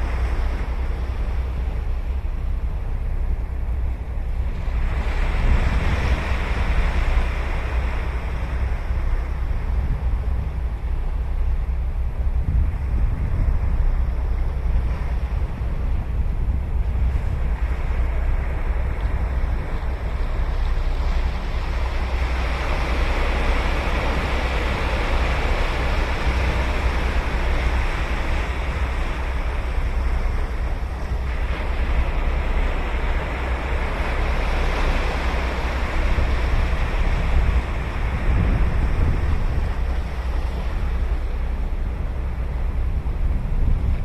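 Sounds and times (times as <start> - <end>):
wind rumble on microphone: 0.0 - 44.0
ocean surf breaking on beach: 4.4 - 10.4, 14.7 - 44.0.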